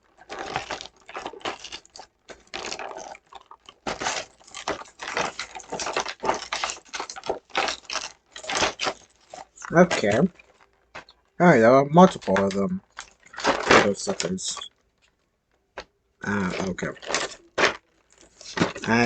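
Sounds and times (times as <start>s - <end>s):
plastic parts rustling and clicking: 0.0s - 19.0s.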